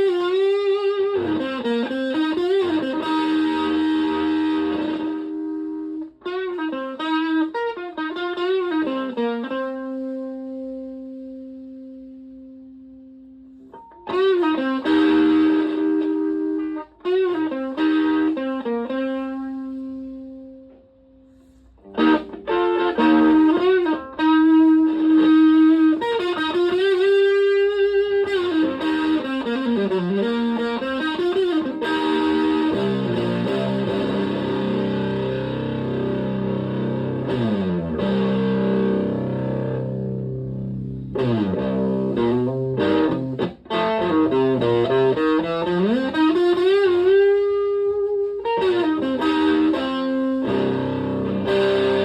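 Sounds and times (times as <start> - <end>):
electric guitar with fuzz: 0.0 - 52.0.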